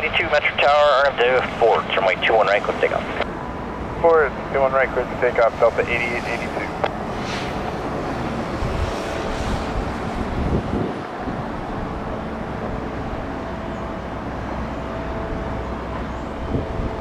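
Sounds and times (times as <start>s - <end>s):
jet engine whine: 0.0s - 17.0s
jet engines rumbling: 0.0s - 17.0s.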